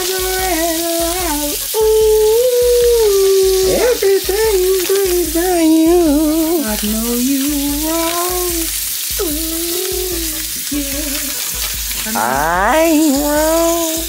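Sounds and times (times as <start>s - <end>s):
background music with beat: 0.0s - 14.0s
burger patty sizzling: 0.0s - 14.0s.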